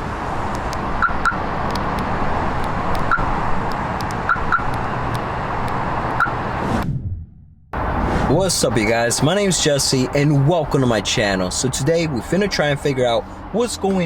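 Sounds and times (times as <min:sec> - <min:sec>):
road traffic noise: 0:00.0 - 0:06.8, 0:07.8 - 0:14.0.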